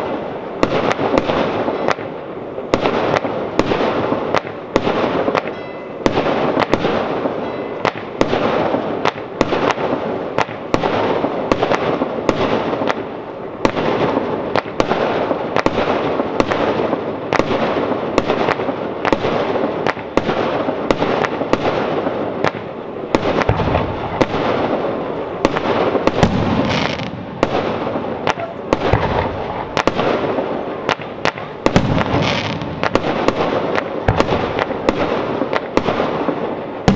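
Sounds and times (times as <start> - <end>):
deep firework booms: 0.0 - 36.9
fireworks crackling: 0.0 - 36.9
firework shells bursting: 0.6 - 36.9.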